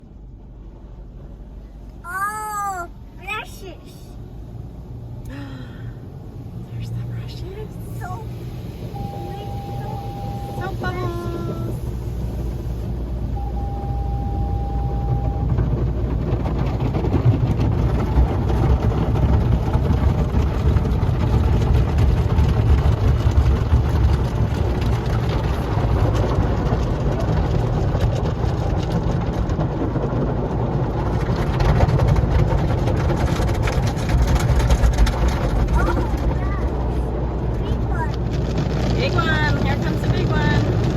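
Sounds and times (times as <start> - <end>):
car wash water spray and machinery: 0.0 - 40.9.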